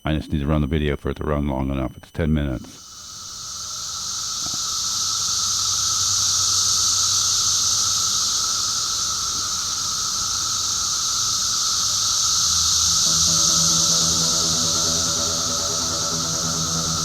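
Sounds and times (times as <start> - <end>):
cicada chorus drone: 2.6 - 17.0.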